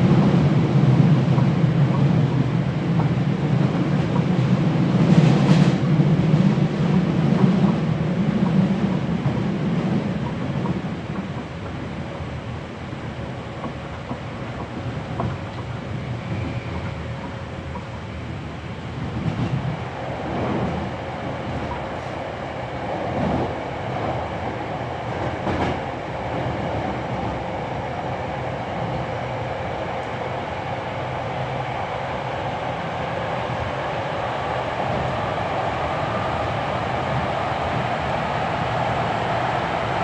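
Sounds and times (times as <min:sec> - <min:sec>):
train wheels and motors rumbling: 0:00.0 - 0:40.0.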